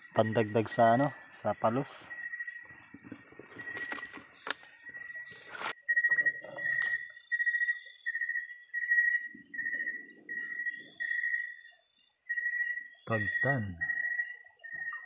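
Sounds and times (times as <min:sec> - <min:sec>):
cricket-like chirping: 0:00.0 - 0:15.0
high-pitched insect trill: 0:00.0 - 0:15.0.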